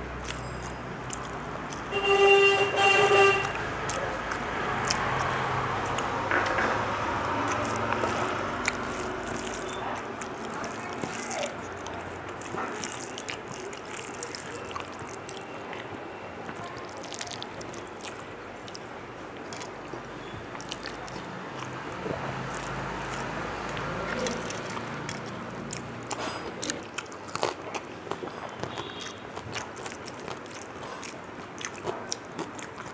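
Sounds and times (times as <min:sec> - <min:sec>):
wet chewing clicks: 0:00.0 - 0:32.9.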